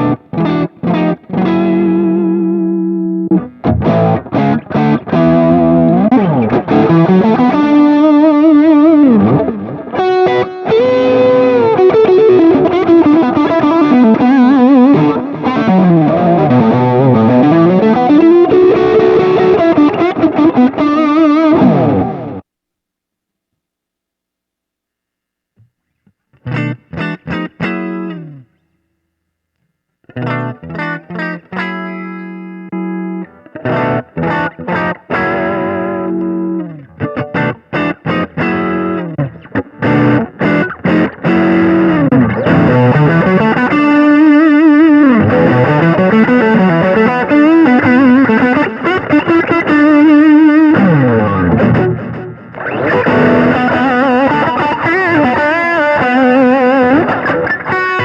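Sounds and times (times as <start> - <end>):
electric guitar playing: 0.0 - 22.4, 26.4 - 28.5, 30.0 - 58.0.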